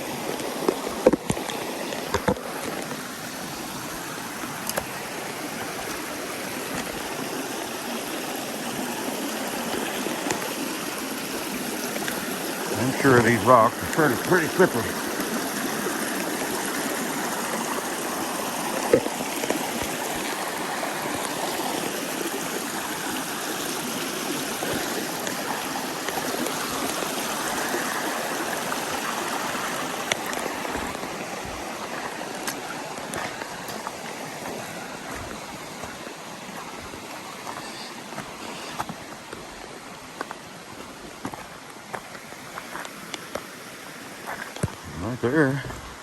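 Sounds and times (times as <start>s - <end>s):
creek rushing over rocks: 0.0s - 46.0s.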